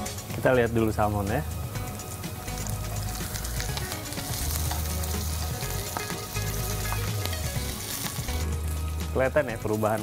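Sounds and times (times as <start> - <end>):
fish sizzling in pan: 0.0 - 10.0.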